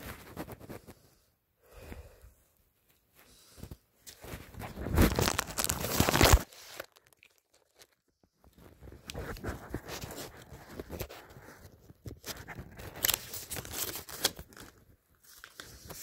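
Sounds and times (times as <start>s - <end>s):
rustling and crinkling handling: 2.7s - 16.0s.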